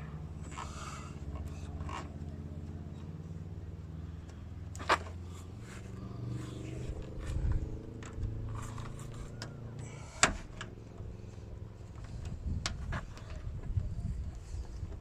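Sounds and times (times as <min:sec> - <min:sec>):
vehicle engine running: 0:00.0 - 0:15.0
small clicks and scrapes: 0:00.4 - 0:03.1, 0:04.2 - 0:15.0.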